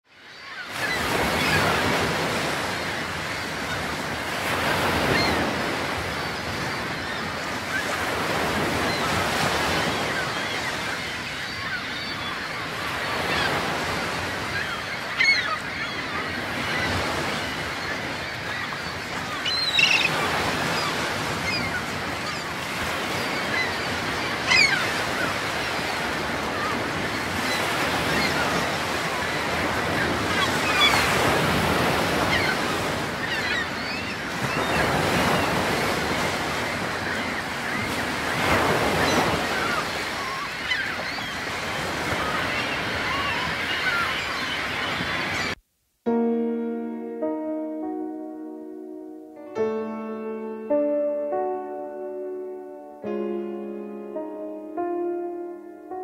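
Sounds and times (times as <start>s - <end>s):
wind: 0.0s - 45.6s.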